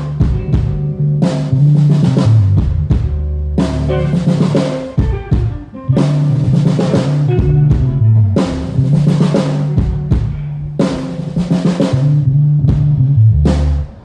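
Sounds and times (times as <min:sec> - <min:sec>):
sustained low notes: 0:00.0 - 0:14.0.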